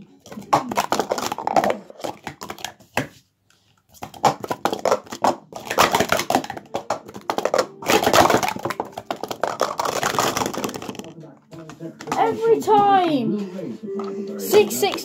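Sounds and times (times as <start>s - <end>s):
plastic cups clattering on a mat: 0.0s - 13.2s, 14.0s - 15.0s.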